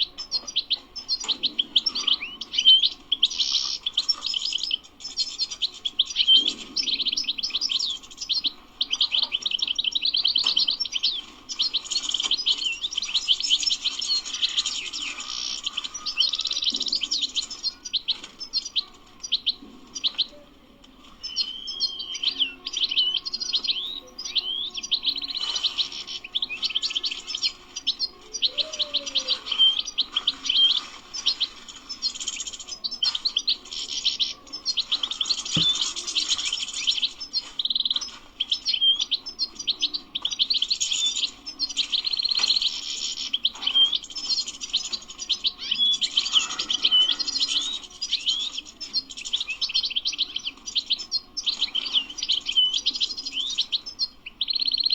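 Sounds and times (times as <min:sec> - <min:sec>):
goldfinch twittering song: 0:00.0 - 0:20.4, 0:21.1 - 0:54.9.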